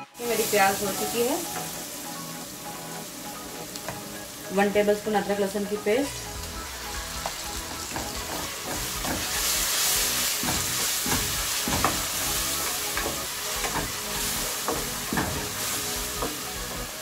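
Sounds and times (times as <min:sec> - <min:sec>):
onions sizzling in a pot: 0:00.0 - 0:17.0.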